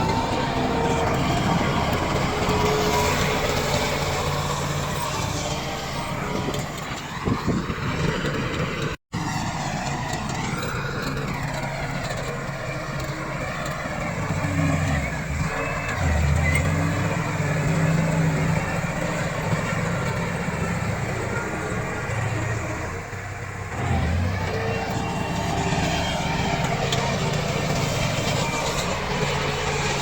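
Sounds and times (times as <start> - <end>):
bulldozer diesel engine under load: 0.0 - 30.0.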